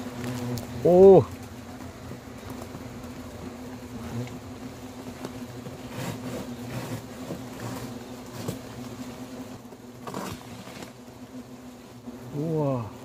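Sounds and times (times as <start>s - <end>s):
hornets buzzing: 0.0s - 13.0s.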